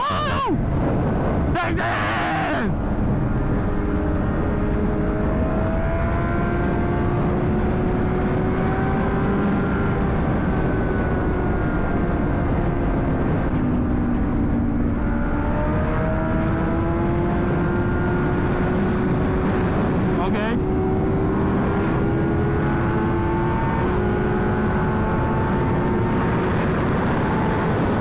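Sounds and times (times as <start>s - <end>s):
low wind rumble: 0.0s - 28.0s.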